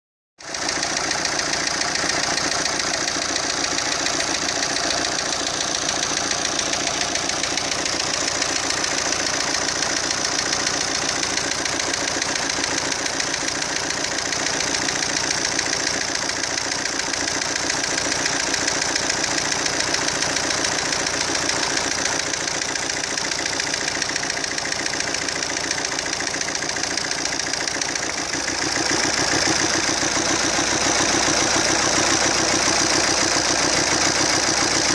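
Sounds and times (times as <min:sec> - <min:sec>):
diesel engine idling with knock: 0:00.4 - 0:34.9.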